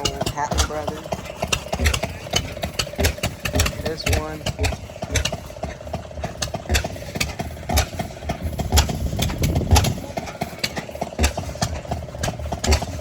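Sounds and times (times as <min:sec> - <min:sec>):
low engine exhaust thumps: 0:00.0 - 0:13.0
sharp engine pops: 0:00.0 - 0:13.0.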